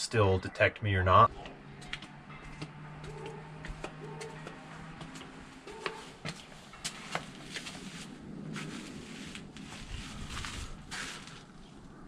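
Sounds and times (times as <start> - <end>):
footsteps on porch steps: 1.2 - 11.5.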